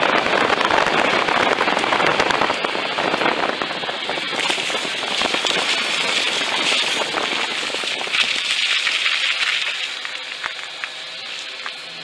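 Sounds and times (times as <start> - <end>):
car tyres crunching on wet gravel: 0.0 - 12.0.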